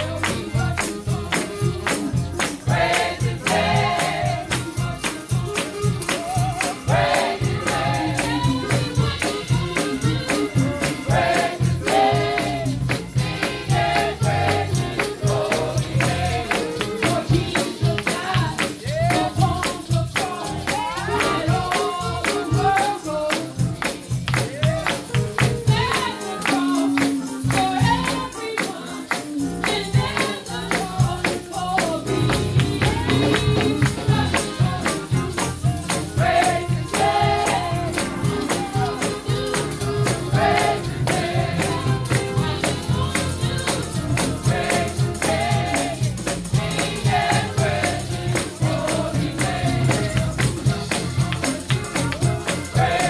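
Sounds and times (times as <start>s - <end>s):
women singing together: 0.0s - 4.9s, 6.2s - 9.4s, 10.0s - 23.6s, 25.5s - 51.0s, 52.6s - 53.0s
band with bass and percussion: 0.0s - 53.0s.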